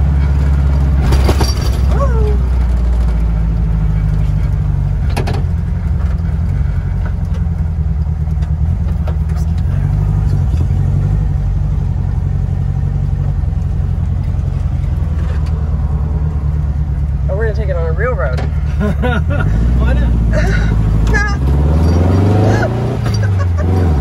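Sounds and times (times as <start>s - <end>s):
car engine droning: 0.0s - 24.0s.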